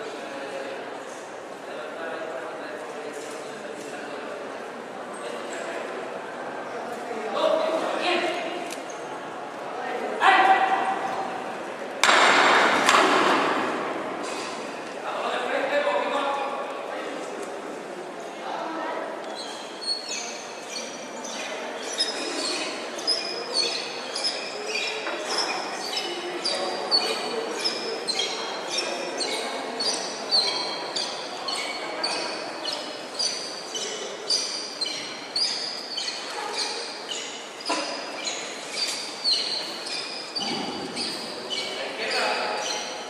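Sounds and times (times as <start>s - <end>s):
crowd murmur in echoing church: 0.0s - 43.0s.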